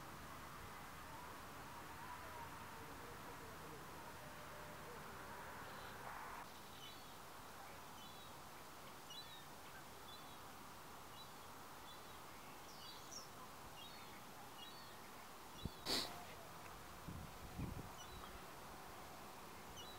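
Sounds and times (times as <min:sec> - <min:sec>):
steady background hiss: 0:00.0 - 0:19.9.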